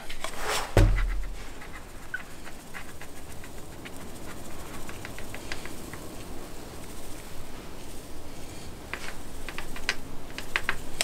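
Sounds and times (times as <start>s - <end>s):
static grass applicator humming: 0.7s - 11.0s
light ticks and crackles: 1.2s - 11.0s.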